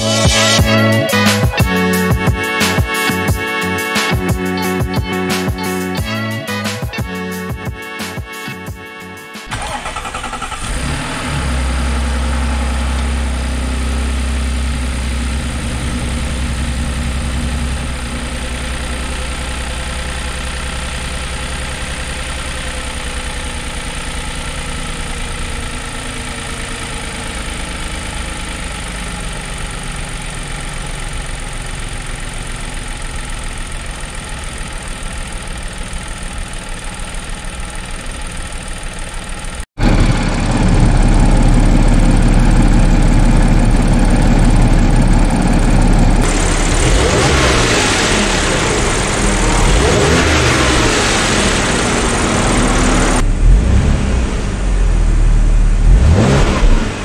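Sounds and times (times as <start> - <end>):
car engine starting and idling: 0.0 - 57.0.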